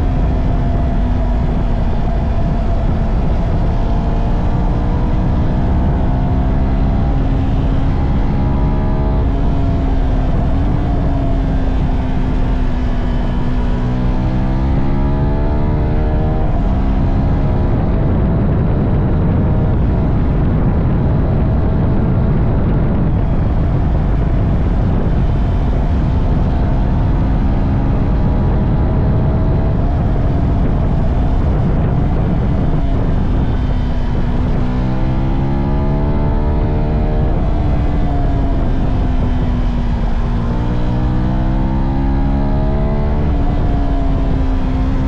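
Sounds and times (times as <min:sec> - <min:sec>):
motorcycle engine shifting gears: 0:00.0 - 0:45.0.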